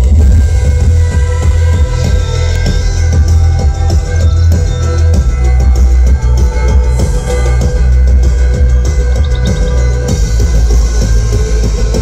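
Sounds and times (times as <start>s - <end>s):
loud electronic music with bass: 0.0s - 12.0s.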